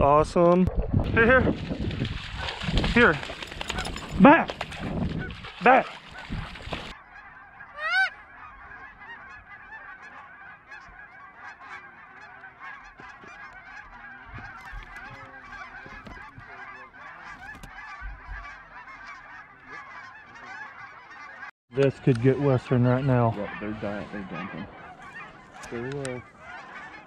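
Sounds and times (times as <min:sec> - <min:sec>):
geese honking: 0:02.3 - 0:27.0.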